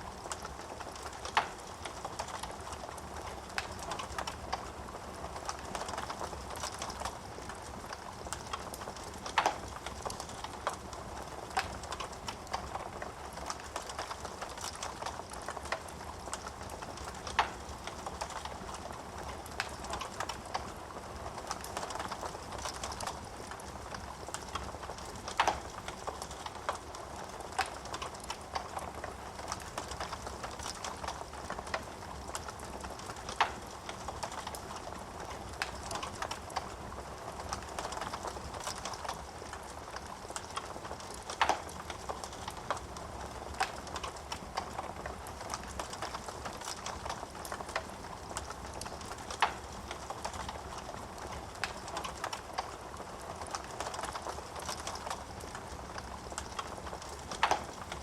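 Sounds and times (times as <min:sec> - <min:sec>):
wood fire crackling and popping: 0:00.0 - 0:58.0
flames rushing in fireplace: 0:00.1 - 0:58.0.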